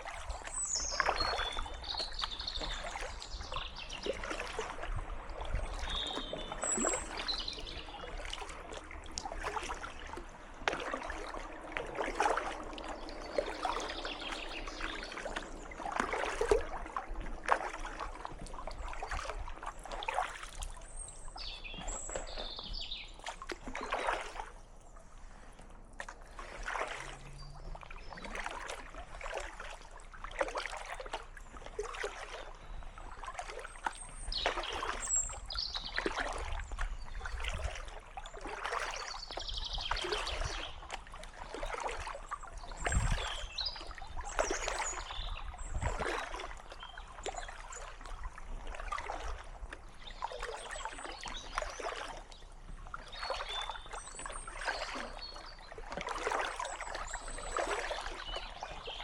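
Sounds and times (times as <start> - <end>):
paddle splashing in water: 0.0 - 59.0
water trickling off paddle: 0.0 - 59.0.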